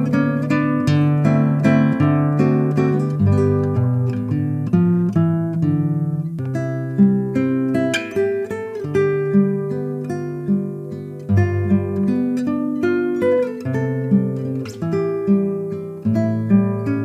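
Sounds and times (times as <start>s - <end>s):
acoustic guitar instrumental: 0.0s - 17.0s.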